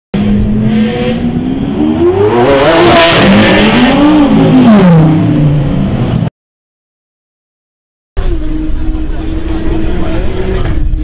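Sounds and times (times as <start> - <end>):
car engine revving: 0.2 - 6.3, 8.2 - 11.0.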